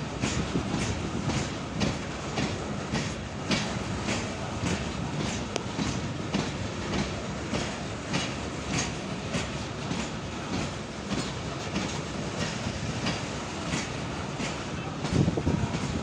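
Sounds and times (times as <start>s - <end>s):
train wheels clicking over rail joints: 0.0s - 16.0s.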